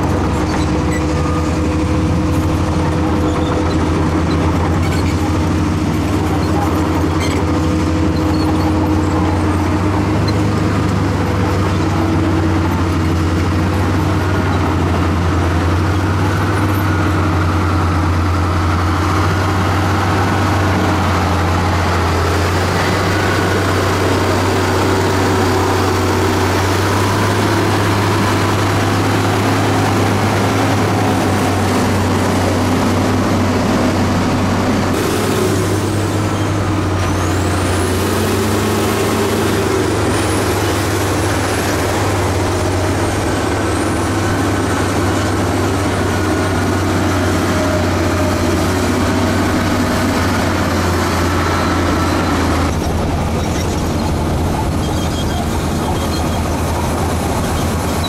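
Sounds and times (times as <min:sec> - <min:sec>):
diesel machinery drone: 0:00.0 - 0:58.0.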